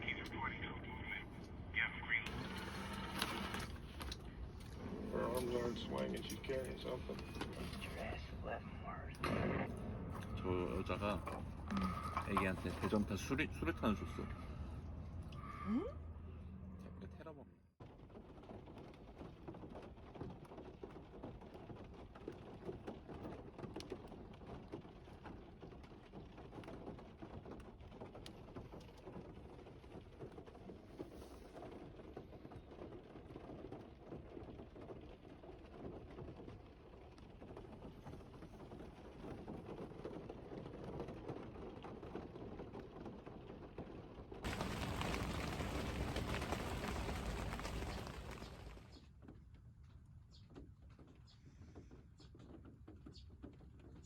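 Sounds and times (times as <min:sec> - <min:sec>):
rain ticking on a surface: 0:00.0 - 0:09.1, 0:10.4 - 0:14.7, 0:17.8 - 0:54.0.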